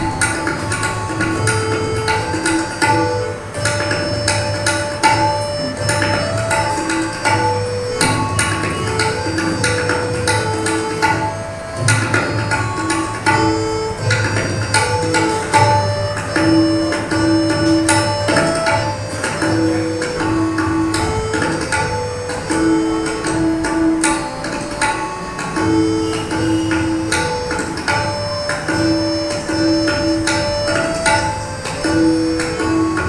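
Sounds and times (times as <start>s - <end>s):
harmonium melody: 0.0s - 33.0s
tabla drumming: 0.0s - 33.0s.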